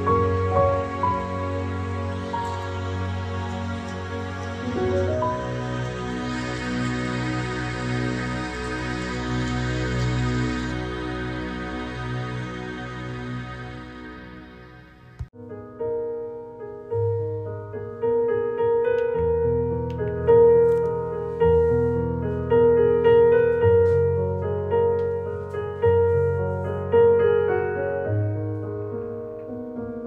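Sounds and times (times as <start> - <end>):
piano chords over bass notes: 0.0 - 30.0.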